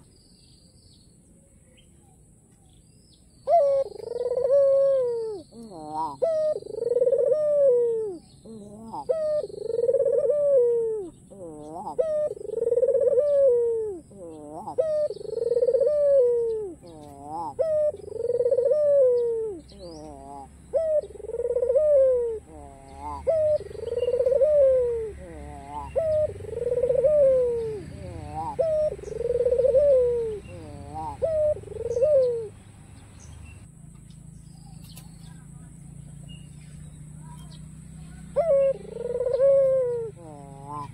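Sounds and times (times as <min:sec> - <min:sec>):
dove cooing: 0:03.4 - 0:32.6, 0:37.2 - 0:40.9.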